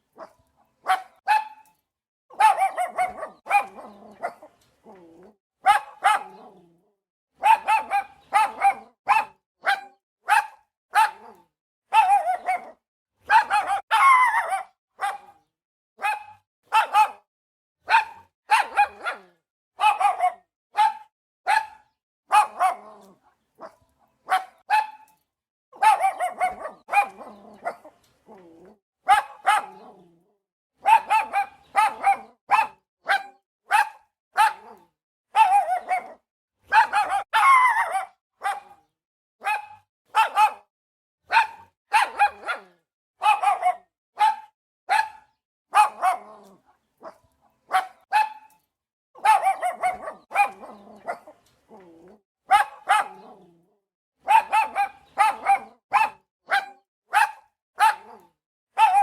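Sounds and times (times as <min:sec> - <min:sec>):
dog barking: 0:00.0 - 0:01.7, 0:02.3 - 0:05.0, 0:05.6 - 0:06.7, 0:07.4 - 0:25.1, 0:25.8 - 0:30.1, 0:30.8 - 0:48.6, 0:49.2 - 0:51.9, 0:52.5 - 0:53.5, 0:54.2 - 0:59.0.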